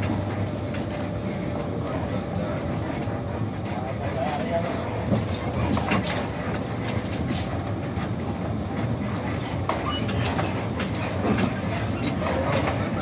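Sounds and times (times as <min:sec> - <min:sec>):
engine and road rumble: 0:00.0 - 0:13.0
light rattles and clicks: 0:00.0 - 0:13.0.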